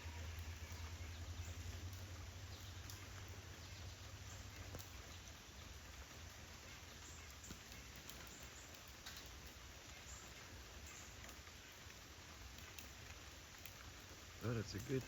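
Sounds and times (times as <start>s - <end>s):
rain drop ticks: 0.0s - 15.0s
steady rain hiss: 0.0s - 15.0s.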